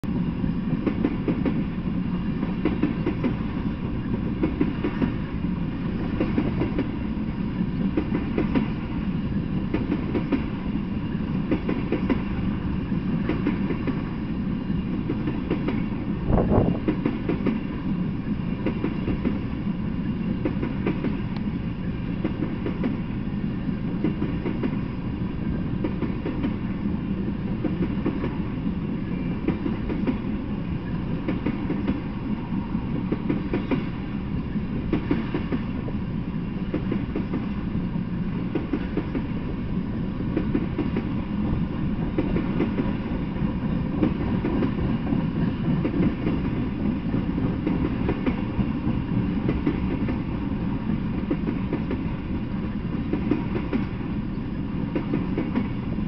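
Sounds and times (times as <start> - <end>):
train wheels rumbling on rail: 0.0 - 56.0
train clicks: 0.5 - 56.0.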